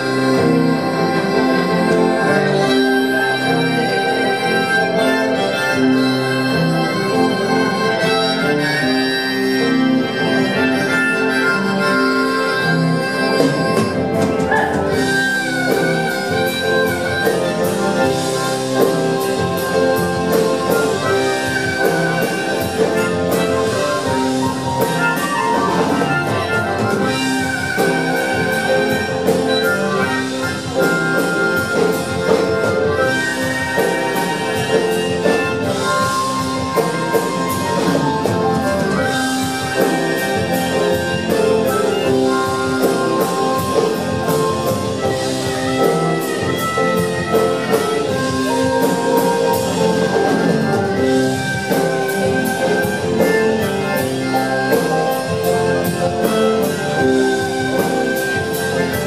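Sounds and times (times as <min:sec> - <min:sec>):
rock band playing live: 0:00.0 - 0:59.0
drums and cymbals: 0:10.5 - 0:59.0.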